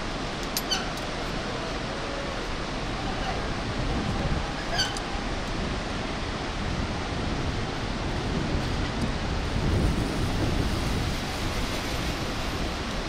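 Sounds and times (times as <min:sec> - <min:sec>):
river rapids rushing: 0:00.0 - 0:13.0
wind buffeting microphone: 0:00.0 - 0:13.0.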